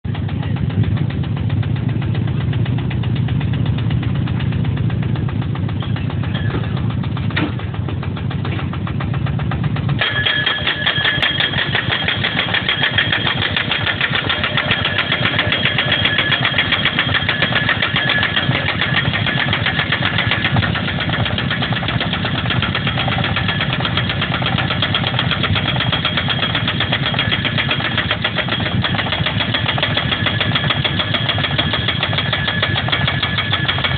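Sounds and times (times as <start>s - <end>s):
pile driver engine running: 0.0s - 33.9s
hammer striking metal clatter: 0.1s - 33.9s.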